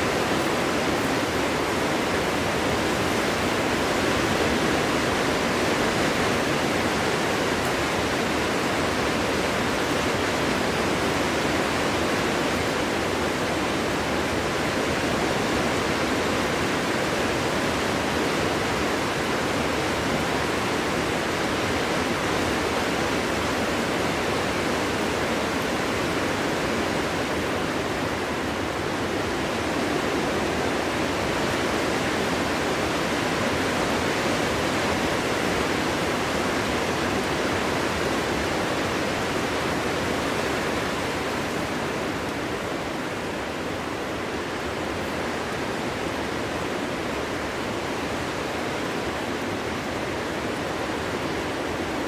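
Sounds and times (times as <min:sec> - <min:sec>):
wind rushing through forest: 0:00.0 - 0:52.0.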